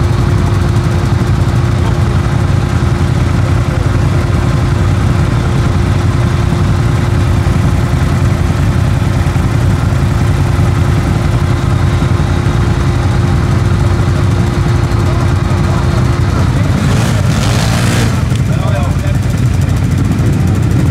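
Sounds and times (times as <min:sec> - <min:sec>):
atv engine droning: 0:00.0 - 0:20.9.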